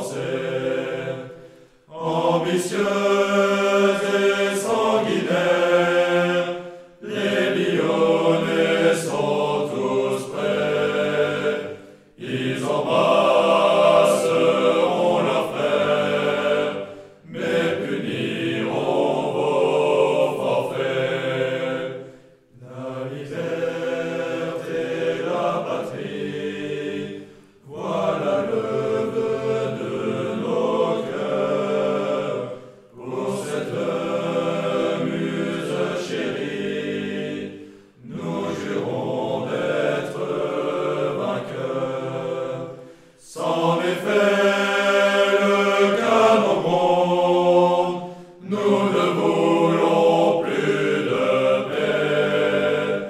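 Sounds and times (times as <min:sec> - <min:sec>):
choir singing a military song: 0:00.0 - 0:53.0.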